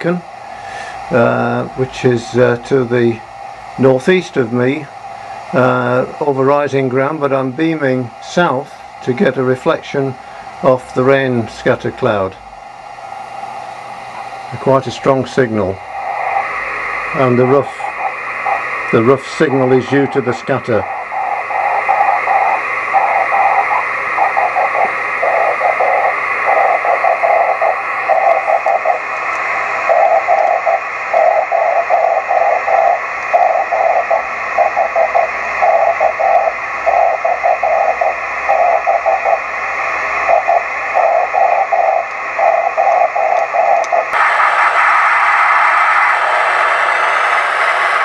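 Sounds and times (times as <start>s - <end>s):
receiver hiss: 0.0s - 48.0s.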